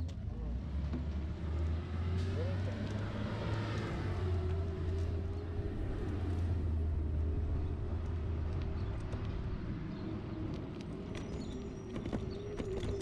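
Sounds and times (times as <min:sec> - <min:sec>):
road noise: 0:00.0 - 0:13.0
vehicle engine drone: 0:00.0 - 0:13.0.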